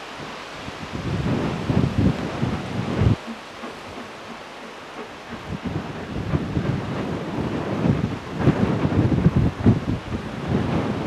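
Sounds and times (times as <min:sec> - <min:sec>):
steady hiss: 0:00.0 - 0:11.0
wind buffeting microphone: 0:00.0 - 0:11.0.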